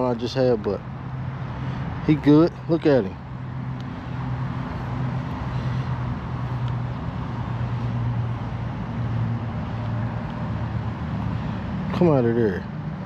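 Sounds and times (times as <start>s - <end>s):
low urban hum: 0.0s - 13.0s.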